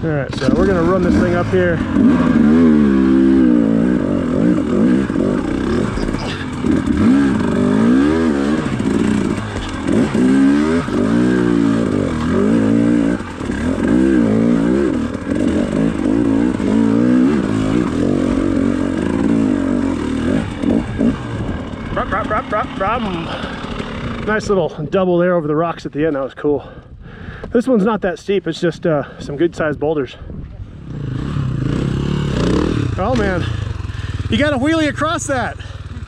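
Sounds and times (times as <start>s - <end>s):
dirt bike engine revving: 0.0s - 24.6s, 30.8s - 36.0s.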